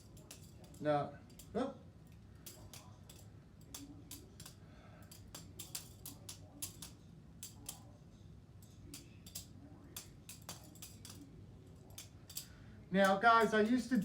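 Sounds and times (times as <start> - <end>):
butterfly knife clicking: 0.0 - 1.5, 2.4 - 7.9, 8.6 - 14.0.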